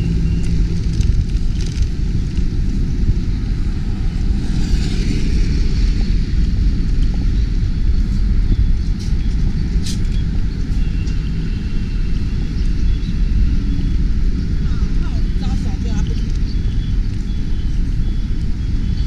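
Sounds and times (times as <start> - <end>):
low rumbling noise: 0.0 - 19.0.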